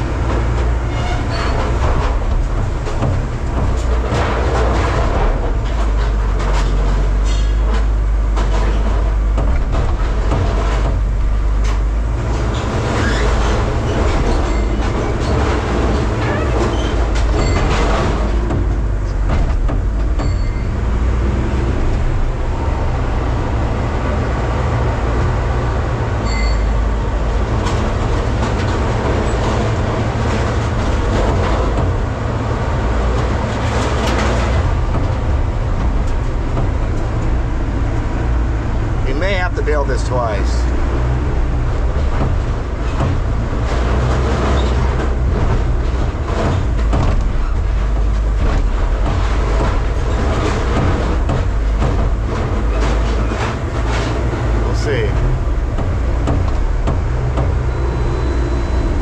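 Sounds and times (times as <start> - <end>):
heavy machine drone: 0.0 - 59.0
metal clanks and creaks: 0.0 - 59.0.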